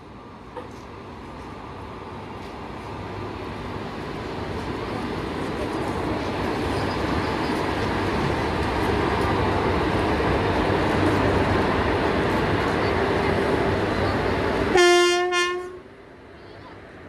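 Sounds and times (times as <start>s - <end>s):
electric train rolling past: 0.0s - 17.0s.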